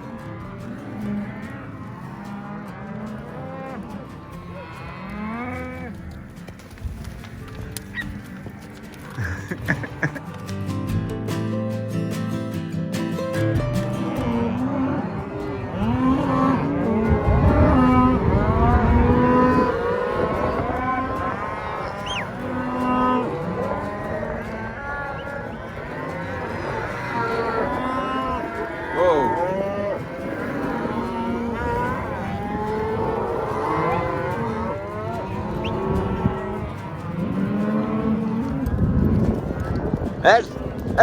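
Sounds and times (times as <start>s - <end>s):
cattle mooing: 0.0s - 10.2s, 14.0s - 41.0s.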